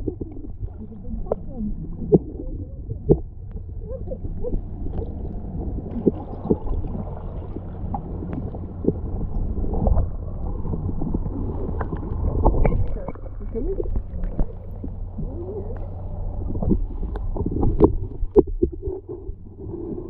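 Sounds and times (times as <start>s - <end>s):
small clicks underwater: 0.0s - 19.7s
bubbling water: 0.0s - 20.0s
muffled underwater sloshing: 0.0s - 20.0s.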